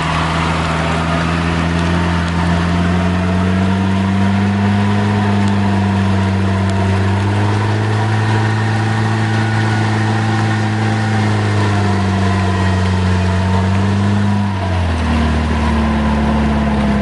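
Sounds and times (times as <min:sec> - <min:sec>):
vehicle engine running at low revs: 0:00.0 - 0:17.0
vehicle wading through mud: 0:00.0 - 0:17.0.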